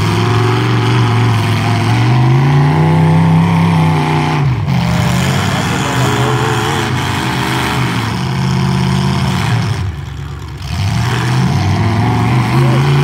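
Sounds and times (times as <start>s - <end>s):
truck engines revving: 0.0s - 13.0s.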